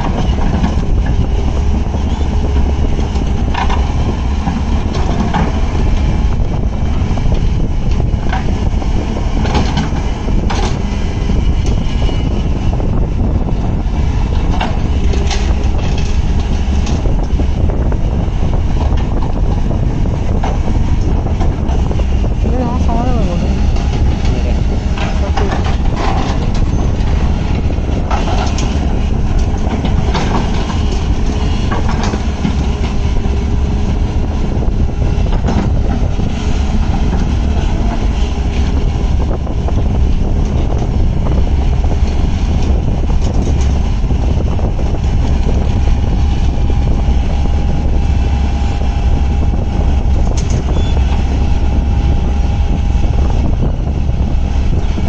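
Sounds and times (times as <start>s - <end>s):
excavator engine rumbling: 0.0s - 55.0s.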